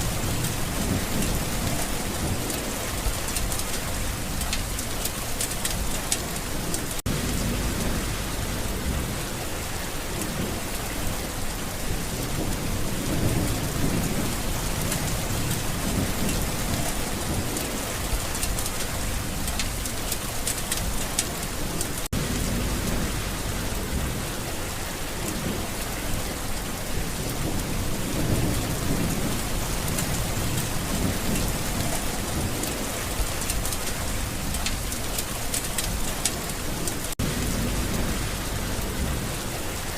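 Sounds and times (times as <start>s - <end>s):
low thunder rolling: 0.0s - 4.8s, 6.5s - 19.9s, 20.8s - 35.1s, 35.8s - 39.9s
steady rain pouring: 0.0s - 39.9s.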